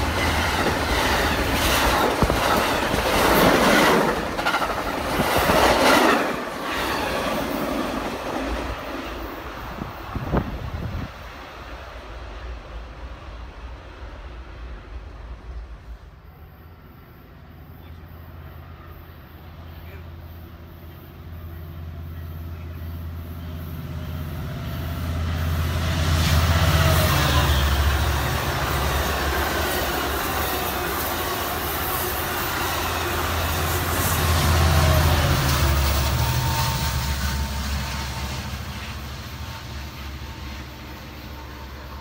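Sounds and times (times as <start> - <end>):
passenger train passing: 0.0 - 42.0.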